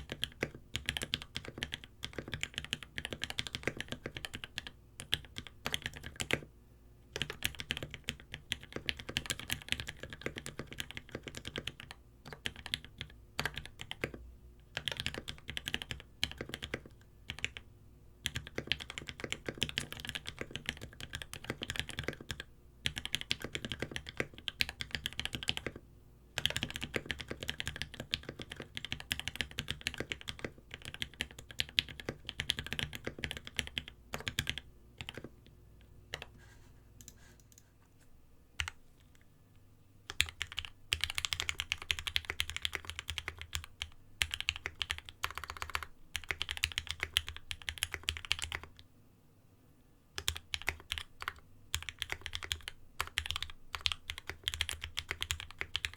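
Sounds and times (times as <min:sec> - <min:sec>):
mechanical keyboard typing: 0:00.0 - 0:06.5, 0:07.2 - 0:17.6, 0:18.2 - 0:25.8, 0:26.4 - 0:35.4, 0:38.6 - 0:38.8, 0:40.1 - 0:48.8, 0:50.2 - 0:55.9.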